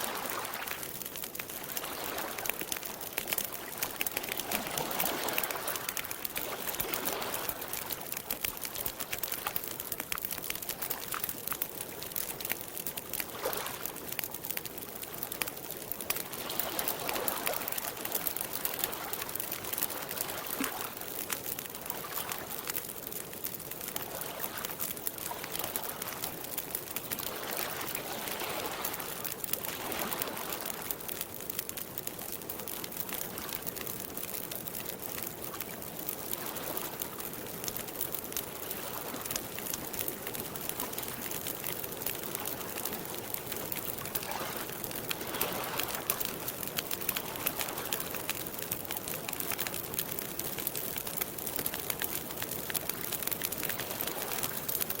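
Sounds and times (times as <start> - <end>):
campfire crackling: 0.0 - 55.0
water lapping at shore: 0.0 - 55.0.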